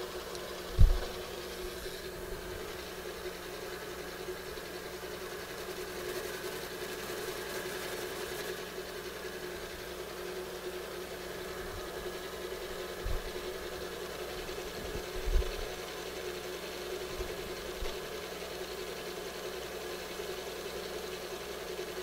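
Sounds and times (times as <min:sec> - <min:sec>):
milling machine spindle hum: 0:00.0 - 0:22.0.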